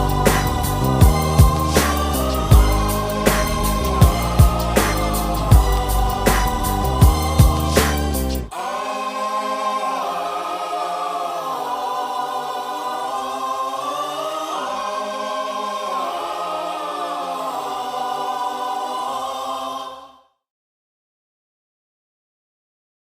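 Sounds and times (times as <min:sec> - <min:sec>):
choir-like voices holding chords: 0:00.0 - 0:20.3.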